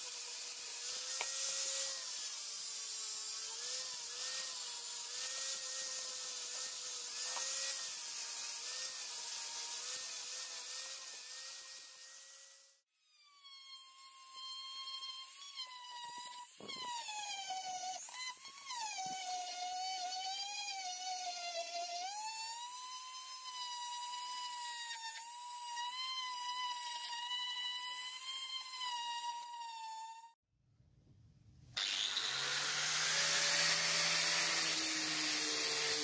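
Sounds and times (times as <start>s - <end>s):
rotary tool whining: 0.0s - 30.4s, 31.8s - 36.0s.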